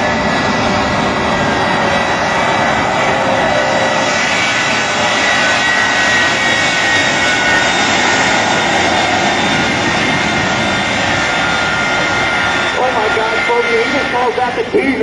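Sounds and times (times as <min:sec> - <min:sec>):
high turbine whine: 0:00.0 - 0:15.0
jet engines roaring: 0:00.0 - 0:15.0.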